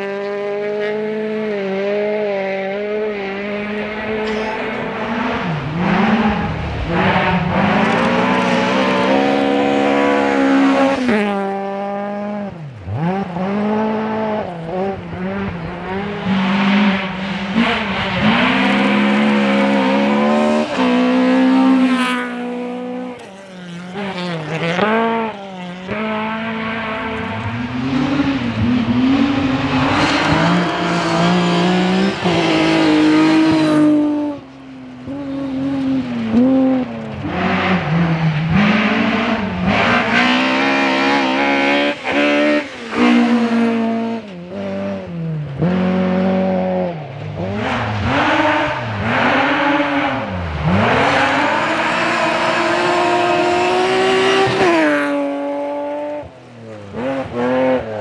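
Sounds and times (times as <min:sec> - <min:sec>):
rally car engines revving past: 0:00.0 - 0:58.0.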